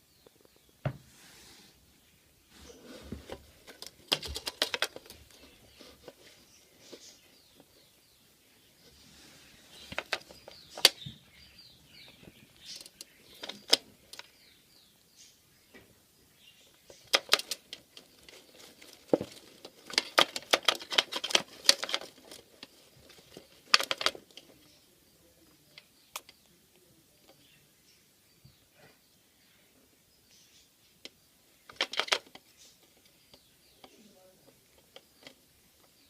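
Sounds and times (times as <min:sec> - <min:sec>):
baby birds scratching and rustling: 0:00.6 - 0:15.8, 0:16.4 - 0:28.8, 0:30.3 - 0:36.0.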